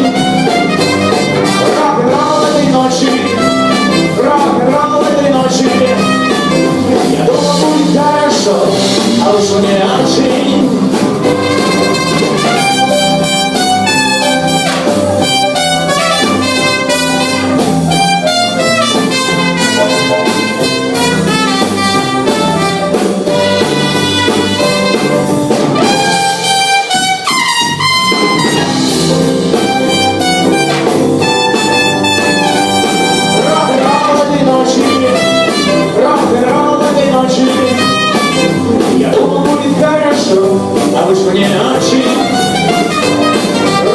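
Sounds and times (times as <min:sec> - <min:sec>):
bass: 0:00.0 - 0:43.9
drums: 0:00.0 - 0:43.9
lead instrument melody: 0:00.0 - 0:43.9.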